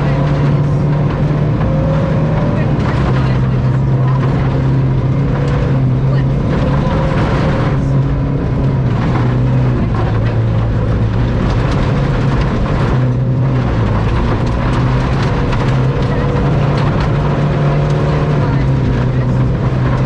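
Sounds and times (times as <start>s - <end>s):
clicks and ticks from road: 0.0s - 20.0s
rally car engine running hard: 0.0s - 20.0s.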